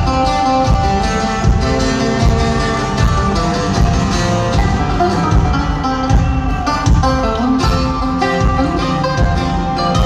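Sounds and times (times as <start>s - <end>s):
country music over sound system: 0.0s - 10.0s.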